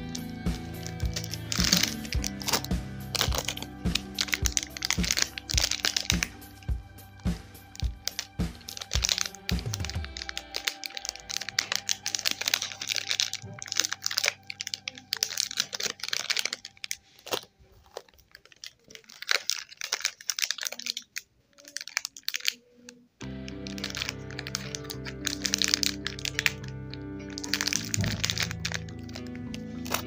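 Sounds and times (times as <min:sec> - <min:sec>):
faint background music: 0:00.0 - 0:30.0
plastic wrapper crinkling: 0:00.0 - 0:30.0.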